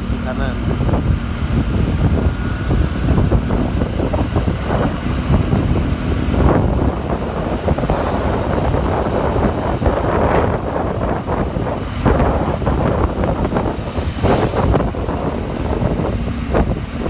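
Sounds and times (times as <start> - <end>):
traffic rumble: 0.0 - 17.0
wind buffeting microphone: 0.0 - 17.0.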